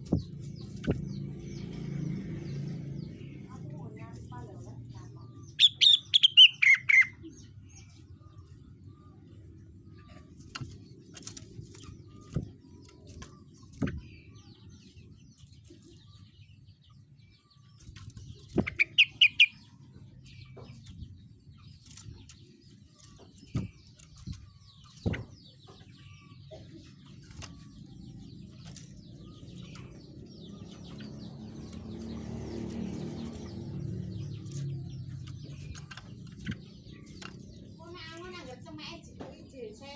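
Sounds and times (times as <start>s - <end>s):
songbird chirping: 0.0s - 39.9s
low background rumble: 7.7s - 39.8s.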